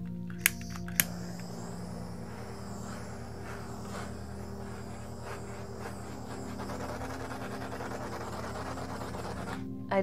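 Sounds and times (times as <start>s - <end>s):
steady low hum: 0.0s - 10.0s
torch flame hissing: 0.4s - 9.8s.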